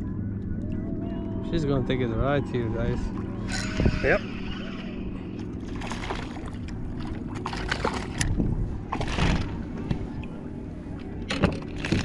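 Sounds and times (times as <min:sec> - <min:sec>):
steady low rumble: 0:00.0 - 0:12.0
water sloshing against hull: 0:00.0 - 0:12.0.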